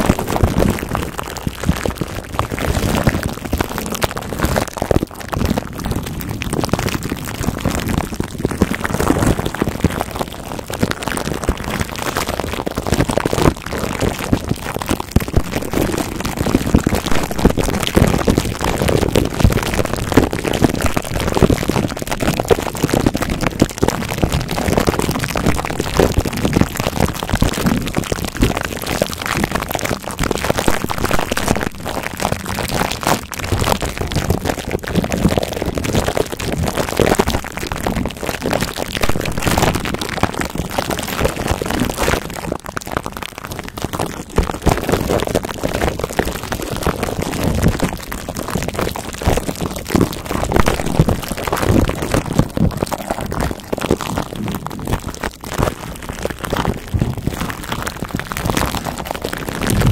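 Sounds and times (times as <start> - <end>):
plastic wrap crackling on microphone: 0.0 - 59.9.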